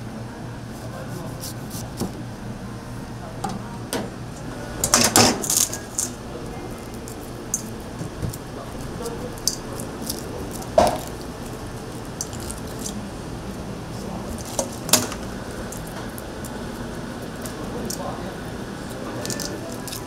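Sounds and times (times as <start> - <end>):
kitchen background hum: 0.0 - 20.0.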